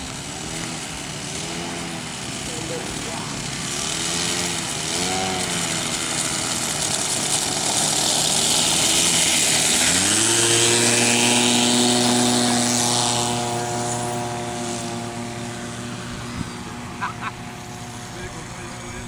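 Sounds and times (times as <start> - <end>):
two-stroke model plane engine: 0.0 - 19.0.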